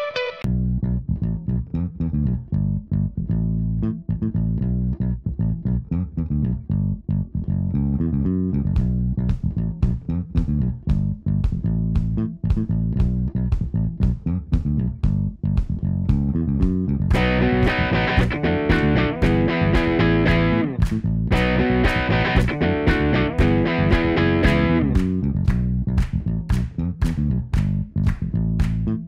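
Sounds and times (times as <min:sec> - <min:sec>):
background music with bass line: 0:00.0 - 0:29.0.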